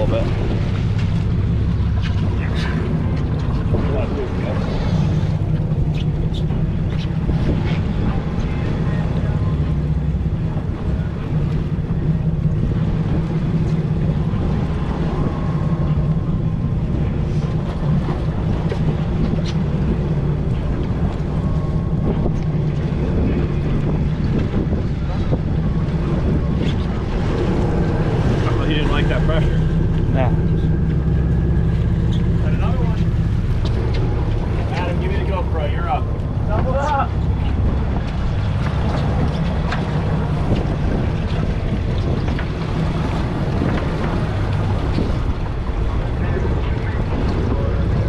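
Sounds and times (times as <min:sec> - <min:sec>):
boat engine rumbling: 0:00.0 - 0:48.0
water washing around hull: 0:00.0 - 0:48.0
wind buffeting microphone: 0:00.0 - 0:48.0.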